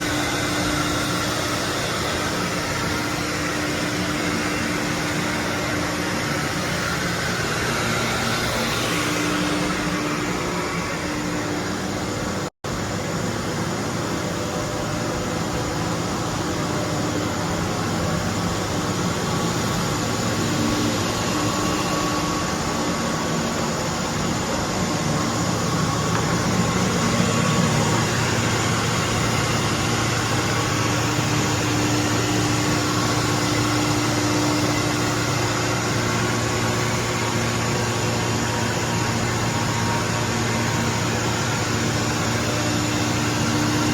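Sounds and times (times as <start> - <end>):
cnc router running: 0.0 - 43.9.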